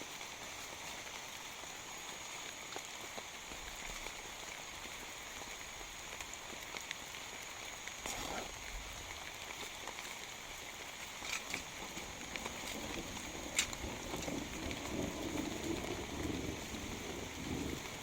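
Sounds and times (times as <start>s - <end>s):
heavy rain falling: 0.0s - 18.0s
raindrops ticking sharply: 0.0s - 18.0s.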